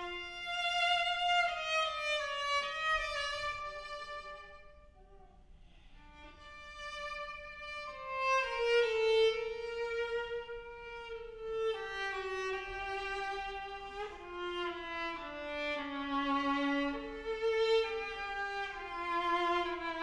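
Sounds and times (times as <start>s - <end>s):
viola slow bowed melody: 0.0s - 5.3s, 6.0s - 20.0s.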